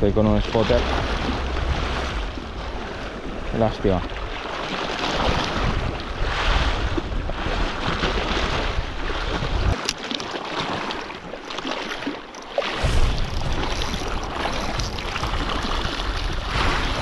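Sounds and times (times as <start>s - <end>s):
wind buffeting microphone: 0.0s - 9.8s, 12.7s - 17.0s
sea waves splashing on rocks: 0.4s - 17.0s.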